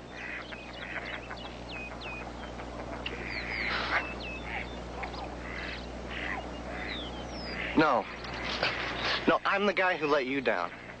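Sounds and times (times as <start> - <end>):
birds chirping and calling: 0.0 - 11.0
steady low hum: 0.0 - 11.0.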